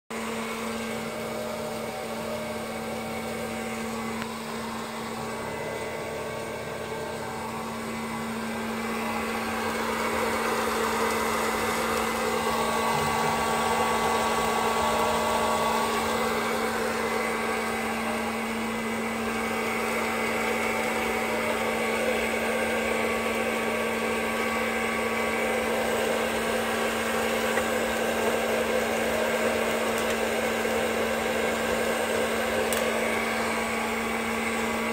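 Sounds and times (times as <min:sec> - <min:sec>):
popcorn popper fan whirring: 0:00.1 - 0:34.9.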